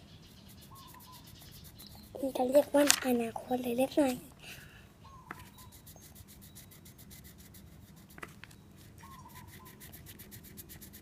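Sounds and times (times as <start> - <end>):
colouring strokes on paper: 0.2 - 4.2, 5.4 - 11.0.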